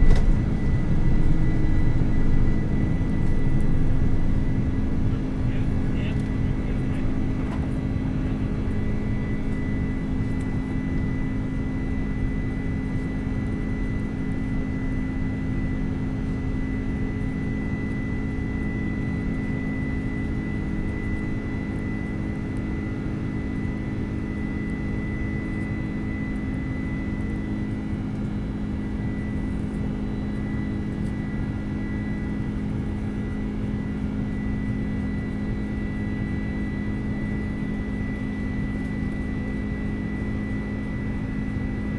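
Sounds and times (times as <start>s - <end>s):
airliner cabin drone: 0.0s - 41.9s.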